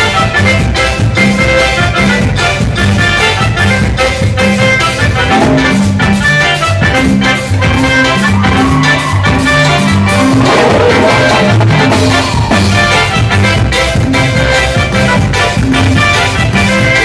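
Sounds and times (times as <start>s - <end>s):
latin dance band playing: 0.0s - 17.0s
steady drum beat: 0.0s - 17.0s
stepping bass line: 0.0s - 17.0s.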